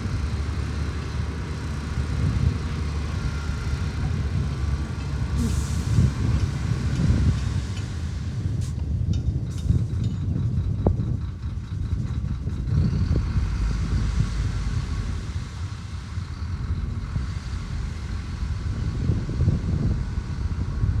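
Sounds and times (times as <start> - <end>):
heavy diesel engine rumbling: 0.0 - 21.0.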